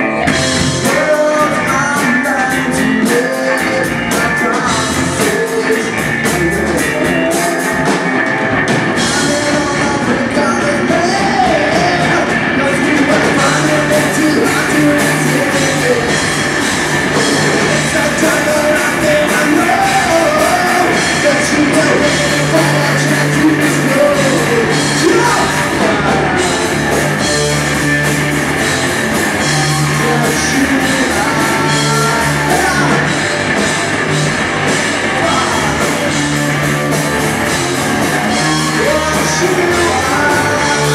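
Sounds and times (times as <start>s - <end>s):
person singing: 0.0s - 8.1s, 9.0s - 40.9s
rock band playing live: 0.0s - 40.9s.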